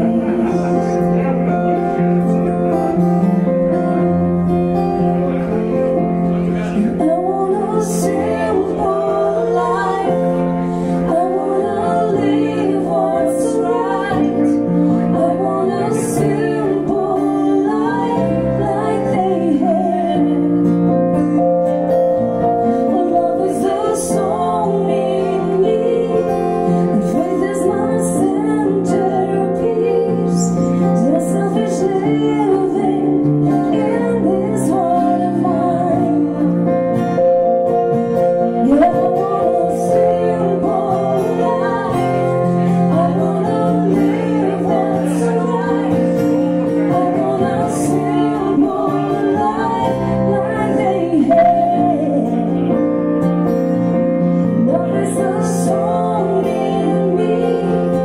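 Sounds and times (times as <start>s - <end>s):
woman singing: 0.0s - 1.7s, 6.7s - 21.5s, 22.7s - 36.8s, 38.4s - 53.4s, 54.4s - 58.0s
acoustic guitar: 0.0s - 58.0s
electric keyboard: 0.0s - 58.0s.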